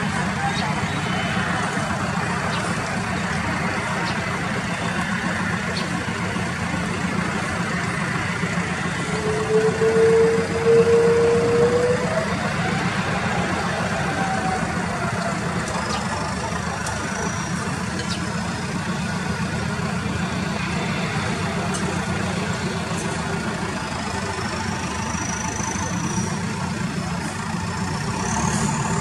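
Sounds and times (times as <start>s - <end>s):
jet engines roaring: 0.0s - 29.0s
rising engine tone: 0.0s - 29.0s.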